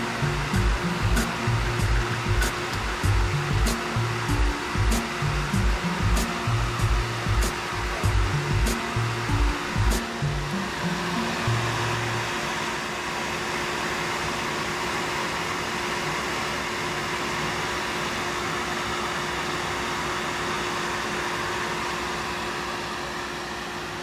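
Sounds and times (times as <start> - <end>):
workshop machinery whirring: 0.0 - 24.0.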